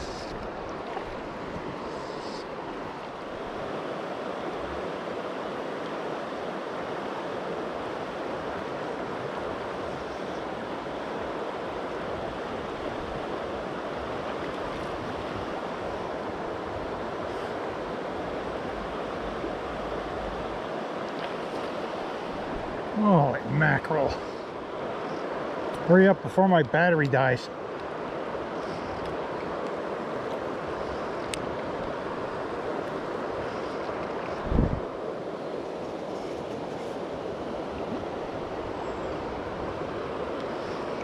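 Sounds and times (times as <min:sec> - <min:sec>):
stream rushing: 0:00.0 - 0:41.0.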